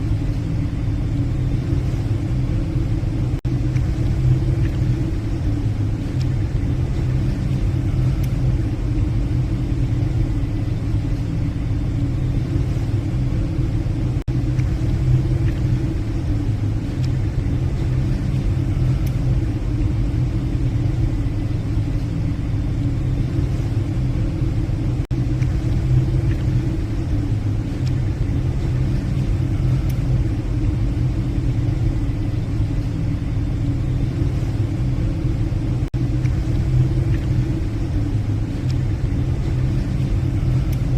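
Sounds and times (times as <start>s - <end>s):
ship engines droning: 0.0s - 40.9s.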